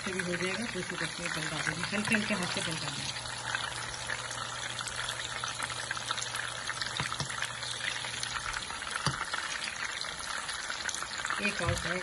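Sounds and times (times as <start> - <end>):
kebabs sizzling in hot oil: 0.0 - 12.0.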